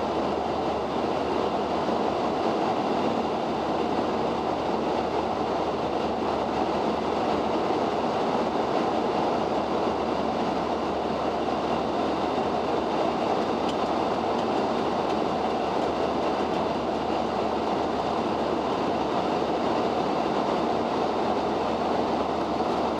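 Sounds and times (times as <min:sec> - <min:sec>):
airflow and engines rushing: 0:00.0 - 0:22.9.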